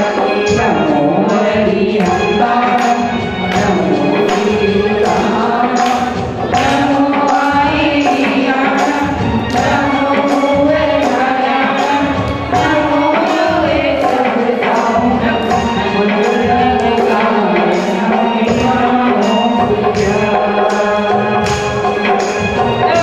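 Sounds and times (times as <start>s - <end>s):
backing music with steady beat: 0.0s - 23.0s
woman singing into microphone: 0.0s - 23.0s.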